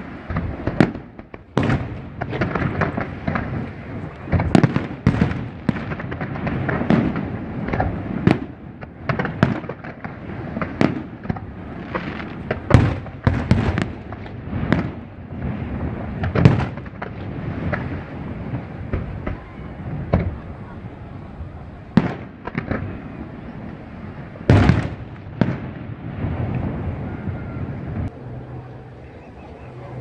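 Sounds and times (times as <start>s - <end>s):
fireworks bangs and crackles: 0.0s - 28.1s.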